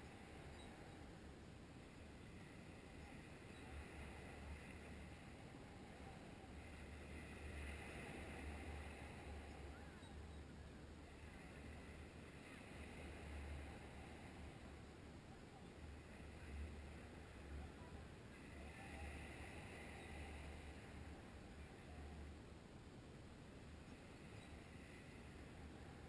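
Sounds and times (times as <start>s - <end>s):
distant surf: 0.0s - 26.0s
wind rumbling on microphone: 0.0s - 26.0s.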